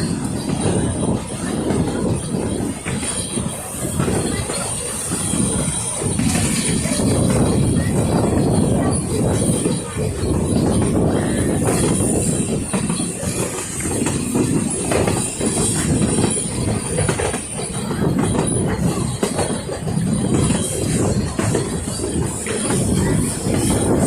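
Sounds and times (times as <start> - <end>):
steam train rumble: 0.0 - 24.0
wheels and carriages clattering: 0.0 - 24.0.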